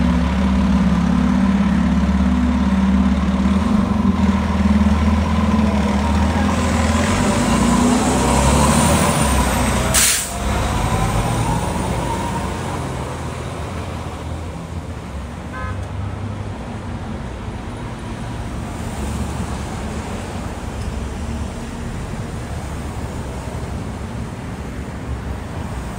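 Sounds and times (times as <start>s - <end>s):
fire truck engines rumbling: 0.0s - 25.9s
street traffic noise: 0.0s - 25.9s.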